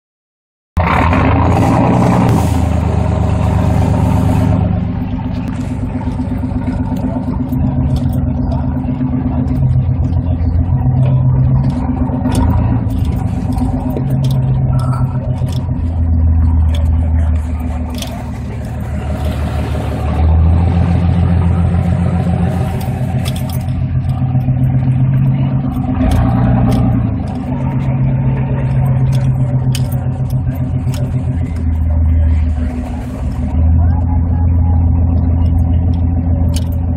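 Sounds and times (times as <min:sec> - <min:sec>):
engine revving: 0:00.8 - 0:36.9.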